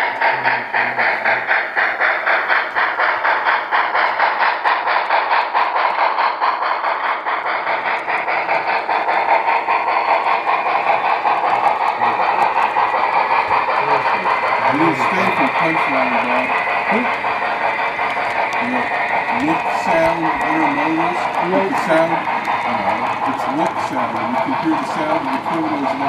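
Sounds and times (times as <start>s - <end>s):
model train rhythmic clicking: 0.0s - 26.0s.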